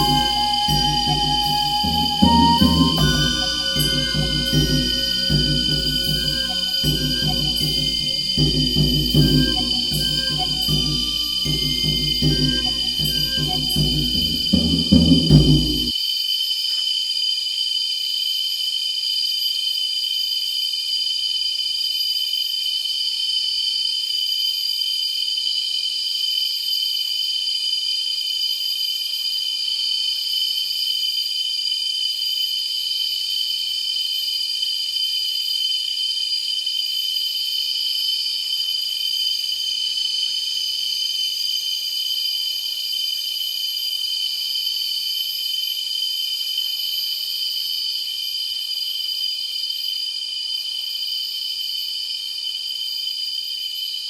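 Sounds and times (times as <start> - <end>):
insect chorus: 0.0 - 54.0
very high pulsing insect call: 0.0 - 54.0.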